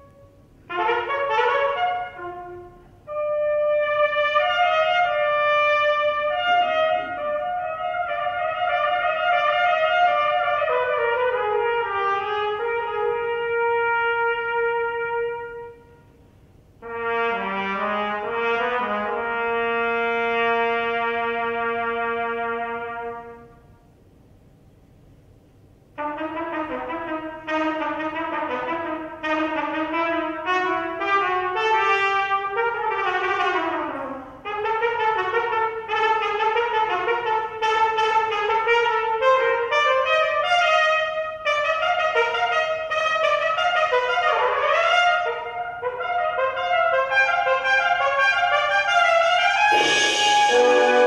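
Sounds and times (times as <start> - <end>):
solo trumpet playing: 0.0 - 16.2, 16.8 - 23.7, 26.0 - 51.0.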